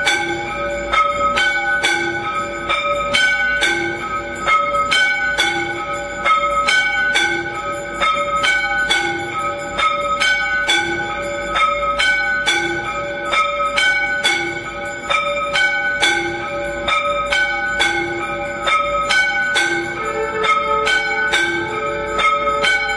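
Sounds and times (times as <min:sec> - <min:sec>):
temple bells ringing: 0:00.0 - 0:22.9.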